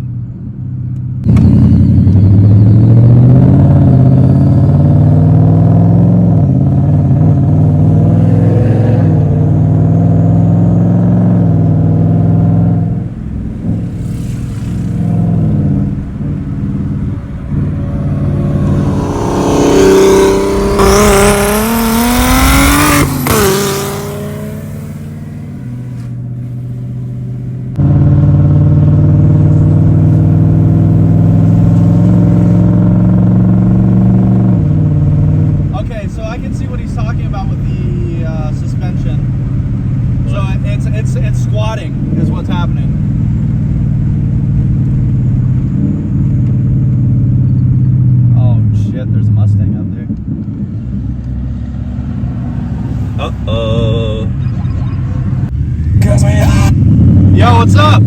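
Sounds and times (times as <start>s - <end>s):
car engine revving: 1.2s - 58.0s.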